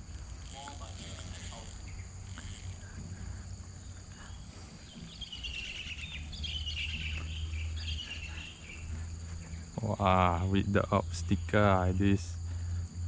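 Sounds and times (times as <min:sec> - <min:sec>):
insects droning high-pitched: 0:00.0 - 0:13.0
rapid chirring insect call: 0:00.0 - 0:13.0.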